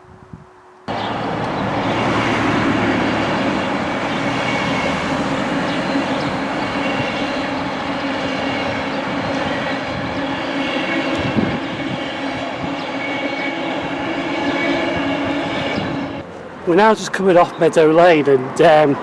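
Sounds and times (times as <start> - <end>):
train passing at speed: 0.9 - 19.0.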